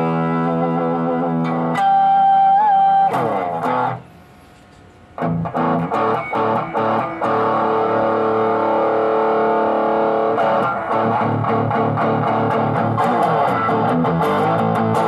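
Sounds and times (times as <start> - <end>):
distorted electric guitar: 0.0 - 4.2, 5.2 - 15.0.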